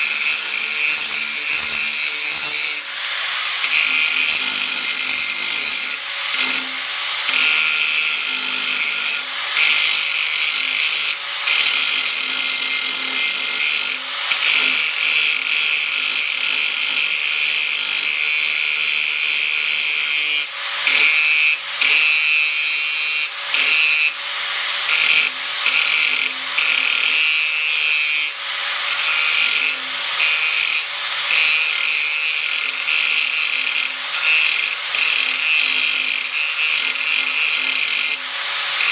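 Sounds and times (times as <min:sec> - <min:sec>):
power tool grinding steel: 0:00.0 - 0:38.9.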